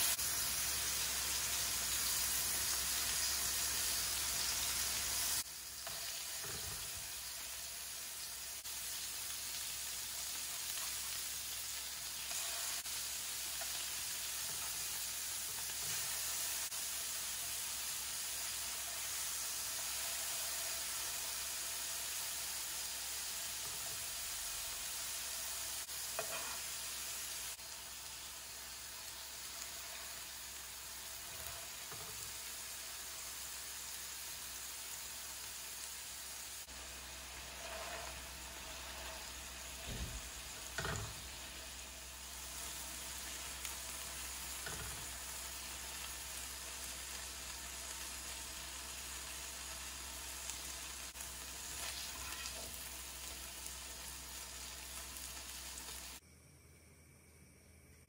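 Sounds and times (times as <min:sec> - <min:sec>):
burger patties sizzling: 0:00.0 - 0:56.2.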